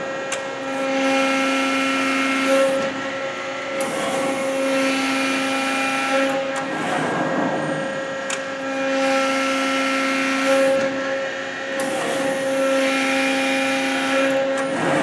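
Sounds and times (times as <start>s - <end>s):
hydraulic press whine: 0.0s - 15.0s.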